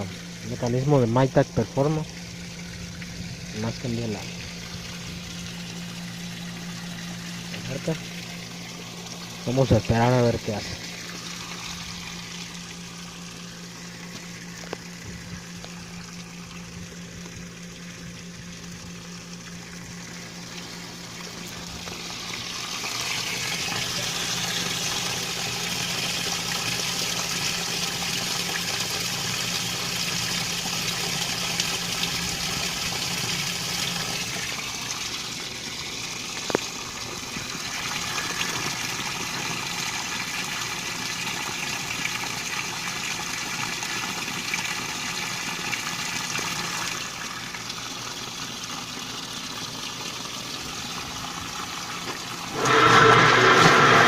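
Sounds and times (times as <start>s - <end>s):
steady hum: 0.0s - 41.3s, 50.5s - 54.0s
washing machine filling with water: 0.0s - 54.0s.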